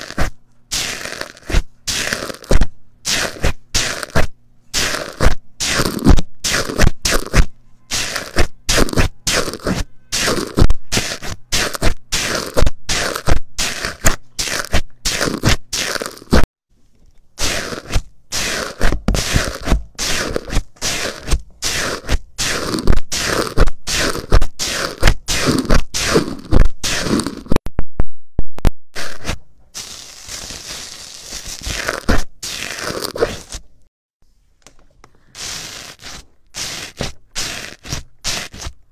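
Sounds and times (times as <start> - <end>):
microphone squishing slime: 0.0 - 16.4, 17.0 - 27.6, 29.0 - 33.7, 35.1 - 38.9.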